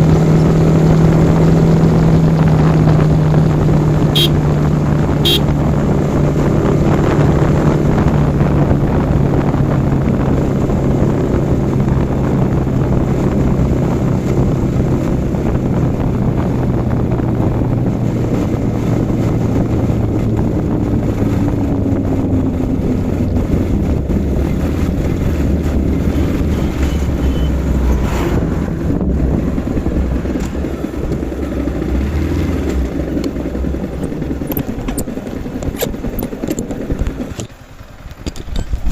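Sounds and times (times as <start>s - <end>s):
motorcycle engine running: 0.0s - 38.9s
wind over microphone: 0.0s - 38.9s.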